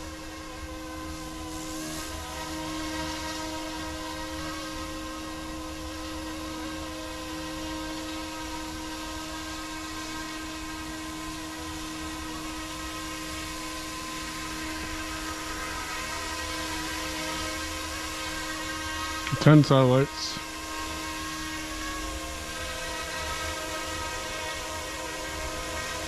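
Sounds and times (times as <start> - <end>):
high motor whine: 0.0 - 26.0.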